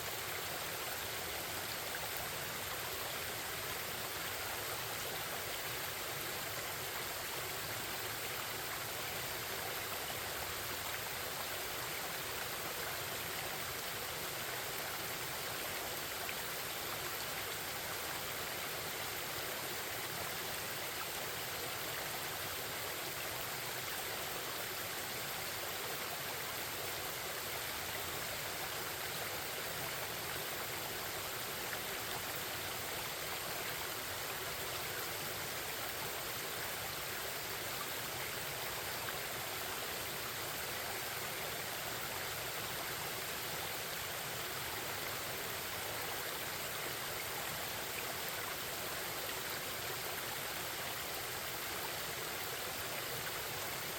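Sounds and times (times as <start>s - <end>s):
stream babbling: 0.0s - 53.9s.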